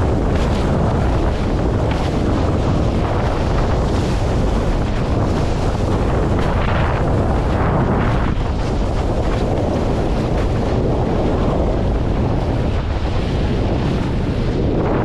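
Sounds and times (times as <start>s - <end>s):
water rushing past board: 0.0s - 15.0s
wind buffeting microphone: 0.0s - 15.0s.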